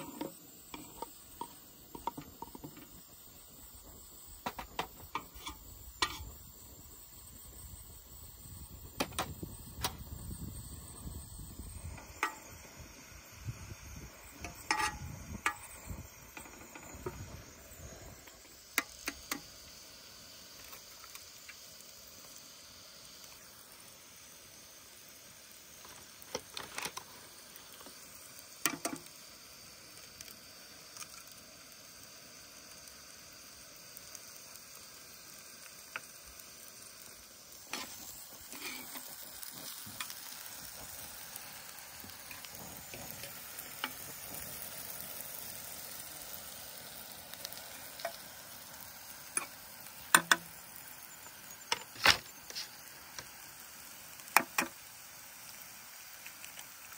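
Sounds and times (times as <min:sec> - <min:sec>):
peppers sizzling in a frying pan: 0:00.0 - 0:56.9.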